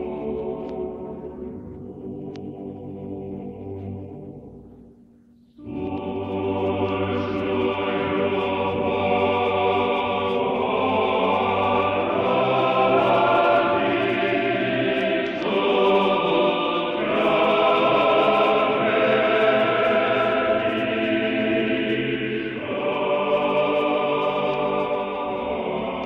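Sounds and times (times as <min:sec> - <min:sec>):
choir singing sacred chant: 0:00.0 - 0:04.6, 0:05.6 - 0:26.0.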